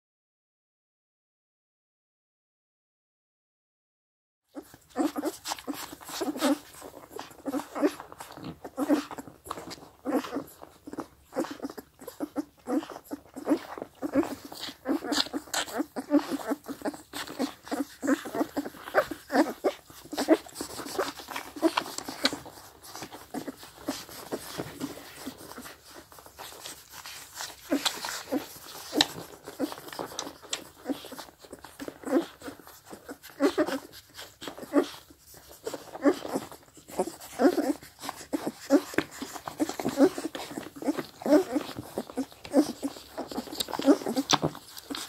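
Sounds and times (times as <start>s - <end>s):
puppies suckling: 4.5s - 45.0s
puppies squeaking: 4.6s - 45.0s.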